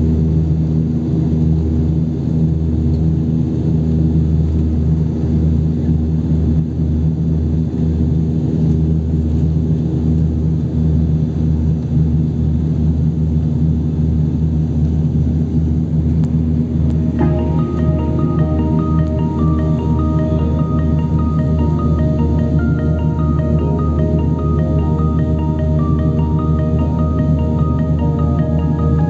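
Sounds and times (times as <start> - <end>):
airplane engines humming in cabin: 0.0 - 29.0.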